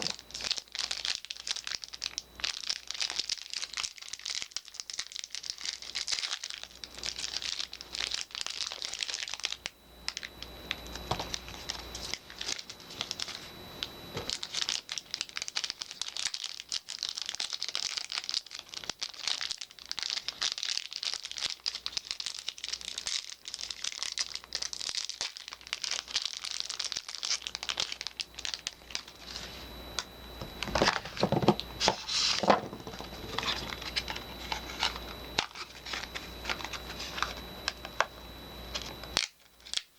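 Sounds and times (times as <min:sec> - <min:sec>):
packaging crinkling and rustling: 0:00.0 - 0:39.9.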